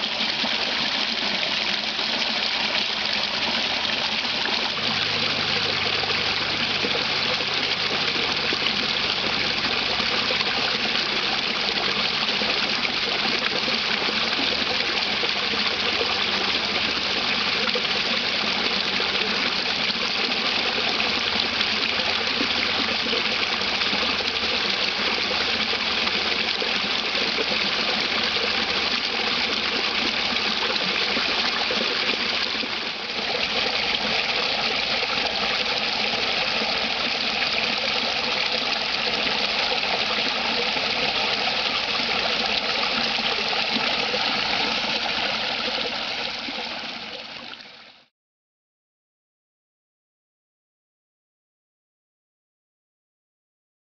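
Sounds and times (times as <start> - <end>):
waterfall splashing into pool: 0.0 - 48.1.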